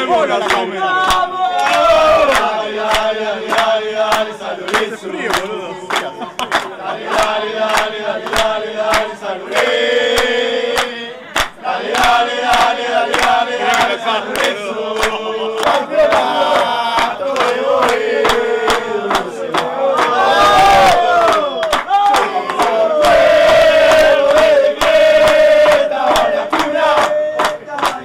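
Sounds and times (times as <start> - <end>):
crowd chanting in unison: 0.0 - 28.0
hand claps: 0.2 - 28.0.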